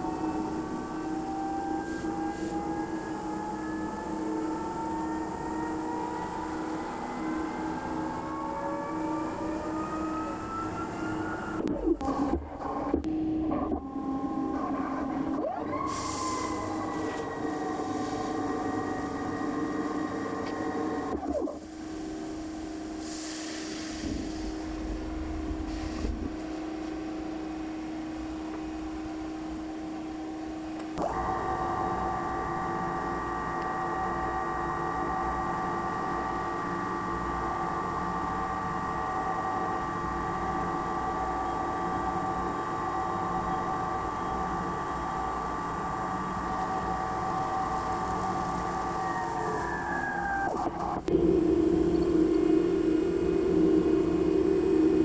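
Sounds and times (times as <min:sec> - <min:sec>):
low machine hum: 0:00.0 - 0:55.0
machine spindle whine: 0:00.0 - 0:55.0.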